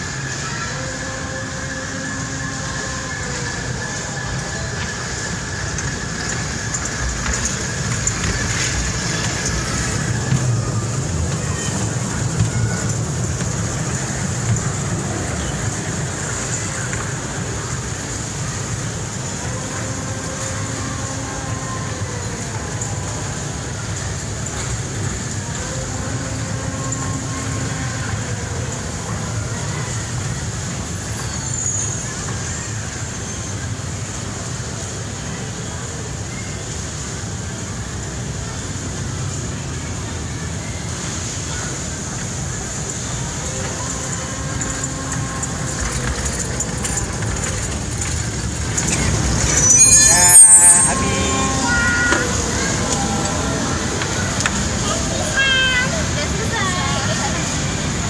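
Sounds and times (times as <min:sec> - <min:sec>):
indistinct voices: 0:00.0 - 0:58.0
toy train rumbling on track: 0:00.0 - 0:58.0.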